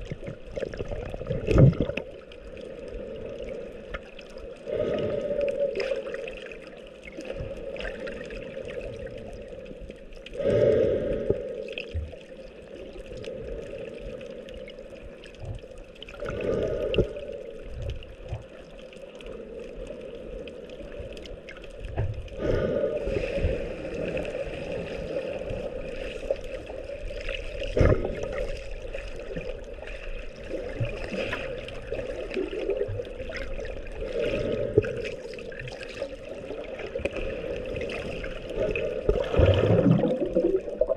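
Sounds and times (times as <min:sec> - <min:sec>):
water sloshing underwater: 0:00.0 - 0:40.9.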